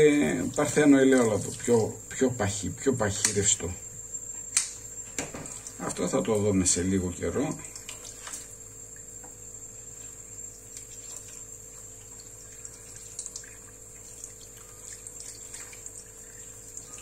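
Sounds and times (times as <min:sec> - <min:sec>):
water dripping and splashing: 0:00.0 - 0:03.6, 0:04.6 - 0:06.6, 0:07.4 - 0:17.0
faint high whine: 0:00.0 - 0:13.8.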